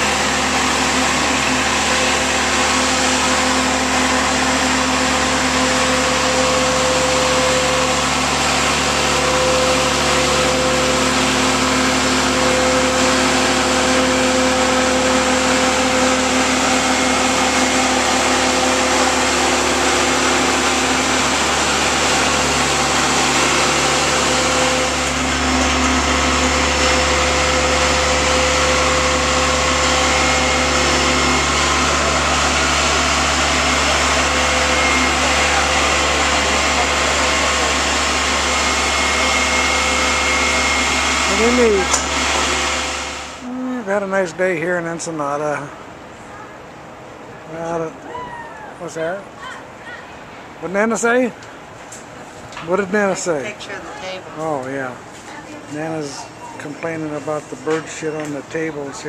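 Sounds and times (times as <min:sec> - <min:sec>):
boat hoist machine hum with whine: 0:00.0 - 0:59.0.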